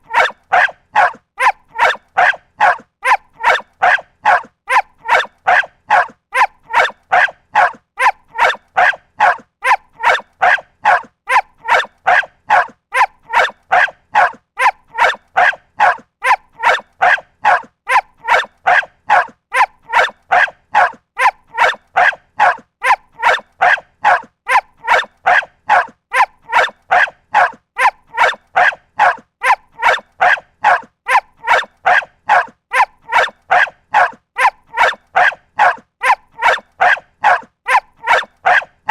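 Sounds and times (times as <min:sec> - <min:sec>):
dog barking: 0:00.0 - 0:38.9.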